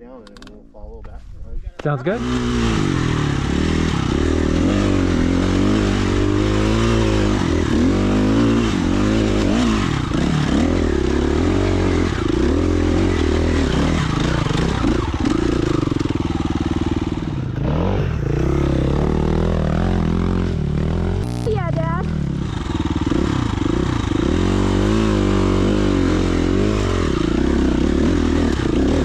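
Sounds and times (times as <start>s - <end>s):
dirt bike engine revving: 2.1s - 29.0s.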